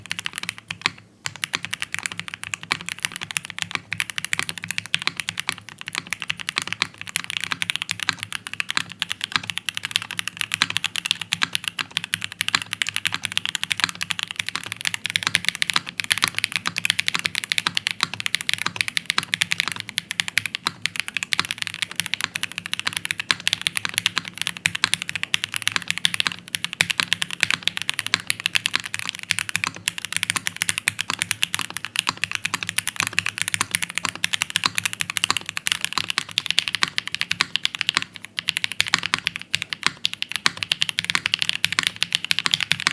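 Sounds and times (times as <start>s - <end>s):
fast typing on mechanical keyboard: 0.0s - 42.9s.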